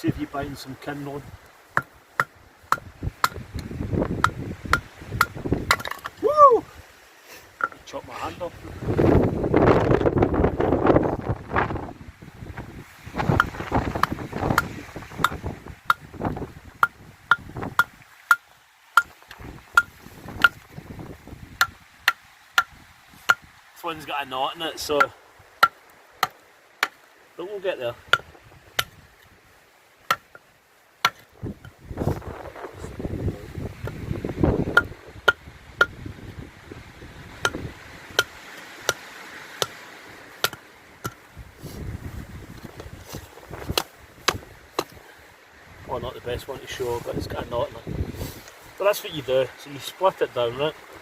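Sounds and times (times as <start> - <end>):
wind buffeting microphone: 0.0 - 7.0, 7.8 - 18.1, 19.0 - 26.4, 27.8 - 29.6, 31.1 - 49.4.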